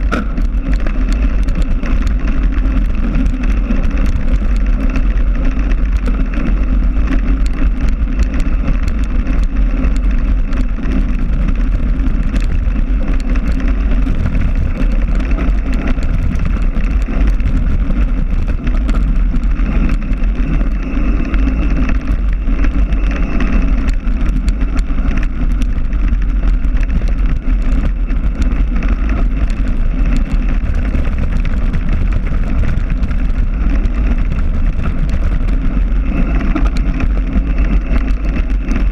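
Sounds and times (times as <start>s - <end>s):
small clicks and rattles: 0.0s - 38.9s
wind rumble on microphone: 0.0s - 38.9s.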